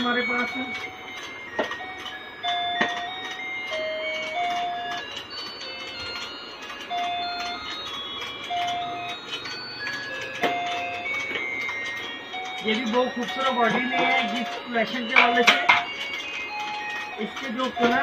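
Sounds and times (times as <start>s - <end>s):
toy beeping electronic melody: 0.0s - 18.0s.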